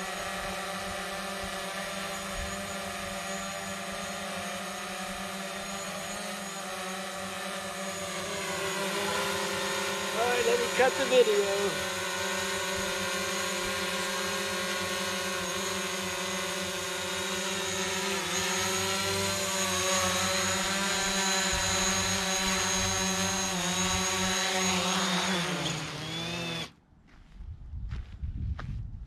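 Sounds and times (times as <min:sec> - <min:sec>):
drone propellers whirring: 0:00.0 - 0:26.8.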